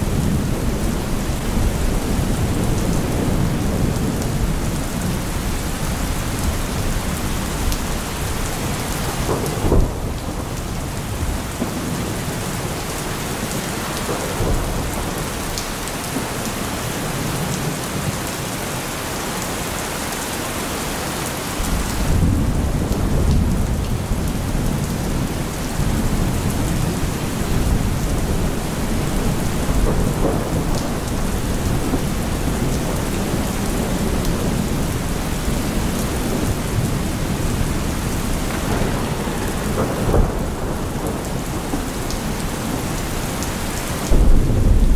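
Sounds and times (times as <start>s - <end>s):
low rumble of thunder: 0.0s - 18.6s, 21.6s - 44.9s
steady rain falling: 0.0s - 44.9s.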